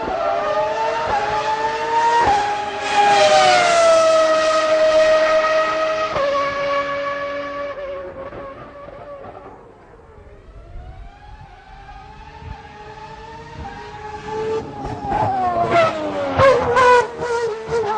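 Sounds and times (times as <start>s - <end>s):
car engine revving: 0.0s - 17.9s
racing car engine whining: 0.0s - 17.9s.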